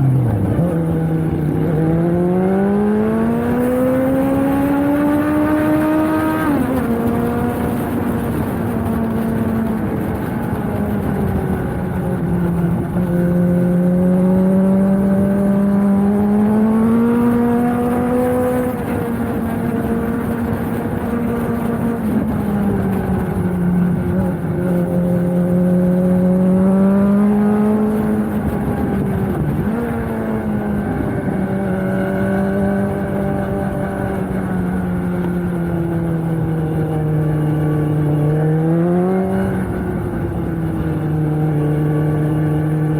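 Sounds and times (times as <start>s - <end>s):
motorcycle engine at steady speed: 0.0s - 42.9s.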